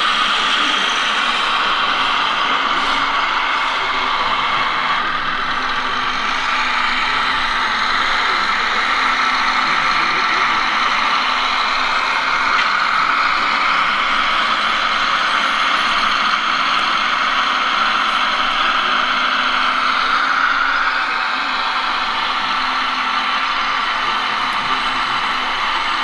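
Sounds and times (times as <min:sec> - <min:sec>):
model excavator hydraulic whine: 0:00.0 - 0:26.0.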